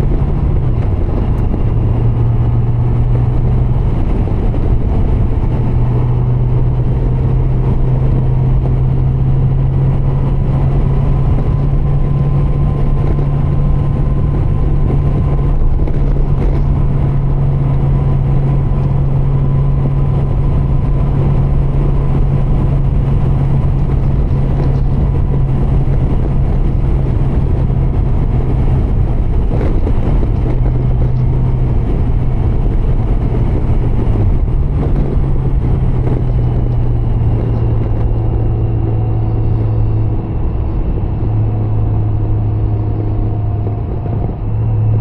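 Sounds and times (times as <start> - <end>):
motorcycle engine droning: 0.0 - 45.0
wind rushing past helmet: 0.0 - 45.0.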